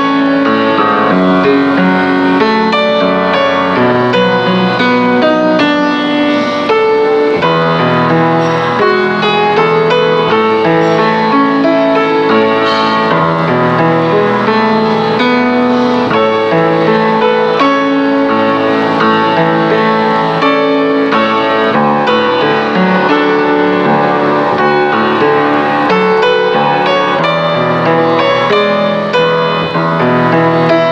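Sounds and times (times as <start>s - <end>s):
piano background music: 0.0s - 30.9s.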